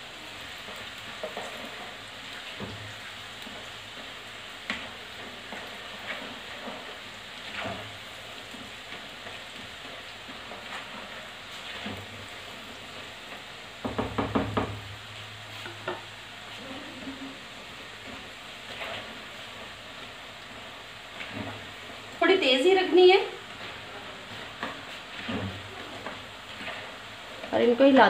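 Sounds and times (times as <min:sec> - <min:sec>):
dough deep-frying in oil: 0:00.0 - 0:28.0
spatula scraping and tapping pan: 0:00.6 - 0:16.1, 0:17.0 - 0:22.2, 0:23.4 - 0:28.0.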